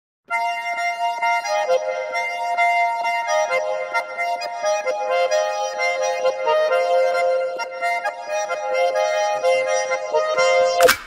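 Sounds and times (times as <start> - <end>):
background music with held notes: 0.3 - 11.0.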